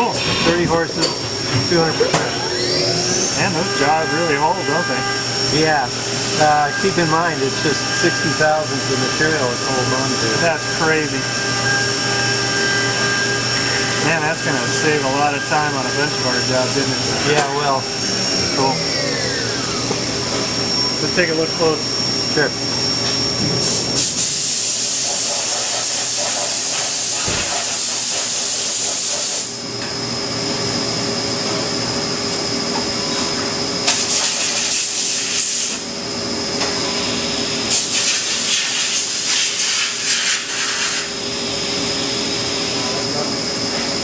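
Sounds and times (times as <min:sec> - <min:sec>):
milling machine whine: 0:00.0 - 0:44.0.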